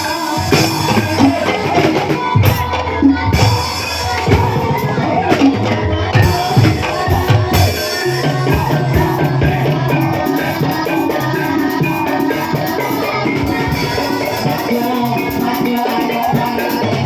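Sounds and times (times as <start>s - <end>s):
ringing metal percussion: 0.0s - 17.0s.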